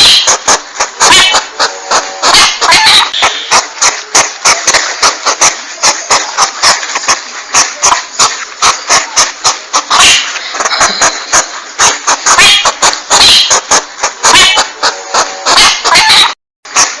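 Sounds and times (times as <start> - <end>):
porcupine call clicks: 0.0 - 16.4
steady hiss: 0.2 - 15.6.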